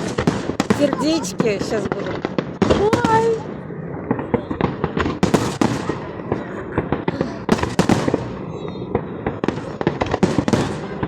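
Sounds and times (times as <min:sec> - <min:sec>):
fireworks booming and crackling: 0:00.0 - 0:11.0.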